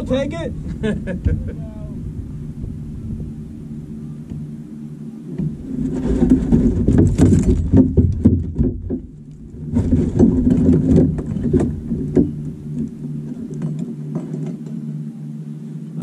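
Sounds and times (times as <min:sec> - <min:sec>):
boat motor running: 0:00.0 - 0:16.0.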